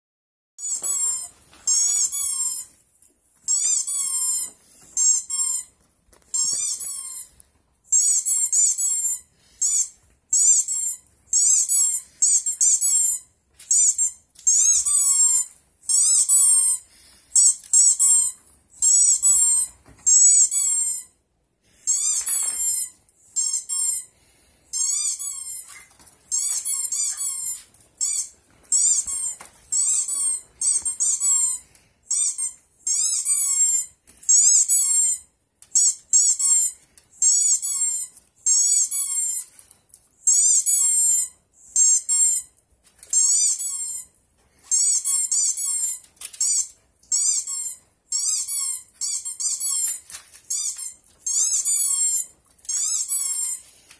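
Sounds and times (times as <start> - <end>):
dogs yelping and whining: 0.6 - 53.9.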